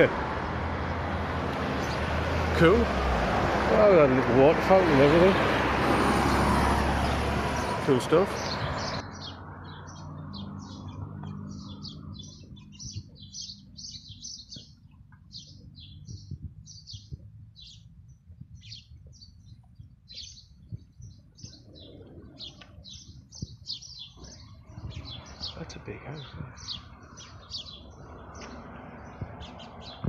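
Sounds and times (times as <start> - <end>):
small birds chirping: 0.0 - 2.8, 6.0 - 30.0.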